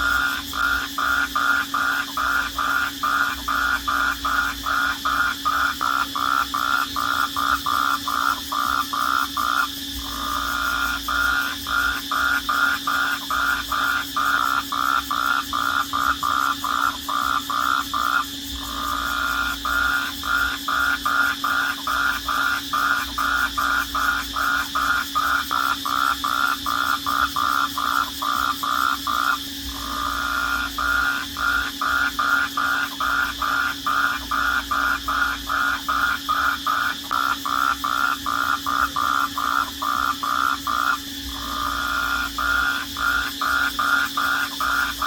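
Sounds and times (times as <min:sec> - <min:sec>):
crickets chirping: 0:00.0 - 0:45.0
high-pitched cricket trill: 0:00.0 - 0:45.0.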